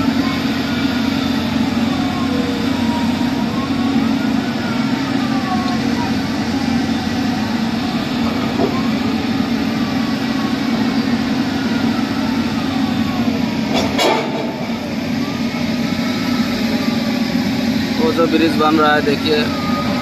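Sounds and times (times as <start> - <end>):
construction machinery humming: 0.0 - 20.0.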